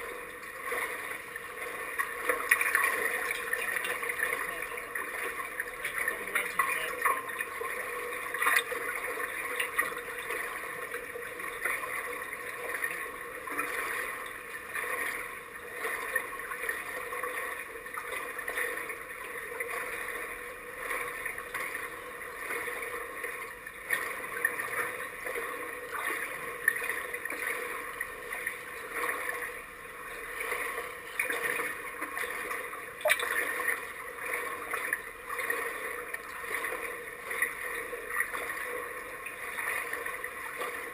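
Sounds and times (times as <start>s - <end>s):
pool water lapping and sloshing: 0.0s - 40.9s.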